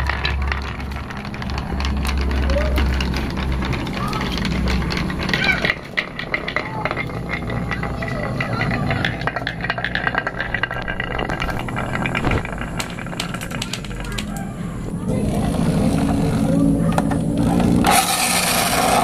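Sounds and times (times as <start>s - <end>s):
marbles rattling down wooden tracks: 0.0s - 19.0s.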